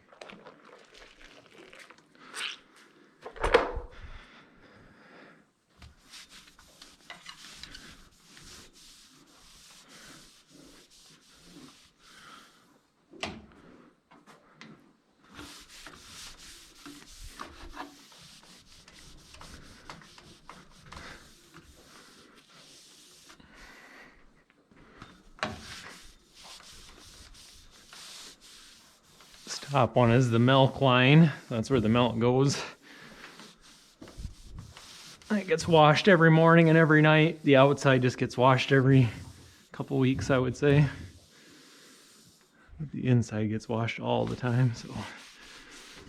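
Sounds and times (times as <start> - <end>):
cloth scrubbing pipes: 0.0 - 2.6, 5.8 - 12.8, 14.7 - 46.0.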